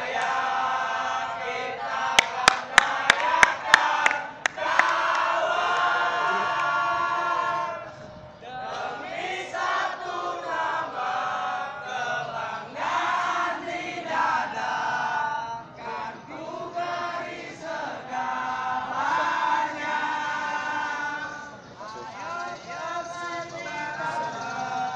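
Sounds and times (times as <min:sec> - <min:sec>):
crowd singing a chant: 0:00.0 - 0:24.9.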